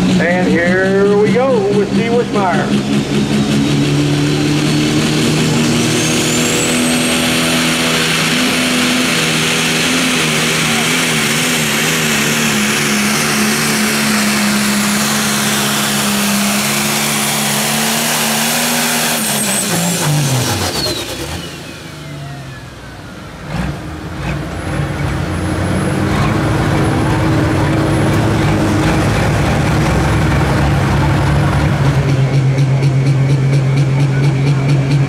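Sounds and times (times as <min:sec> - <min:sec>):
diesel engine running flat out: 0:00.0 - 0:35.0.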